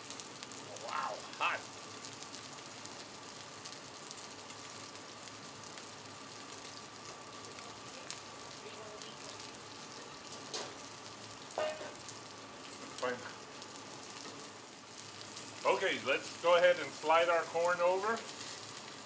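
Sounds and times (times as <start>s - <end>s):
chicken wings sizzling on griddle: 0.0s - 19.0s
small pops of frying: 0.0s - 19.0s.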